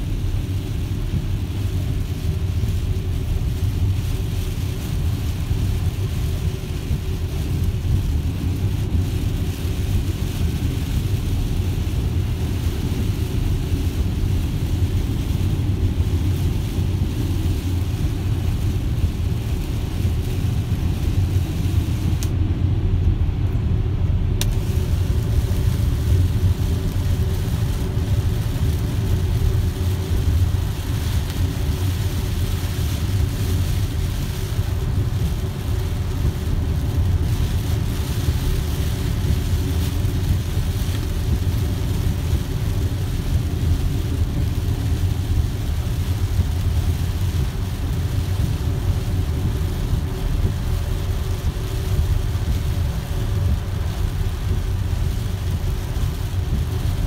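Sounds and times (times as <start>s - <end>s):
rain hissing on windshield: 0.0s - 57.0s
tyres rumbling on wet road: 0.0s - 57.0s.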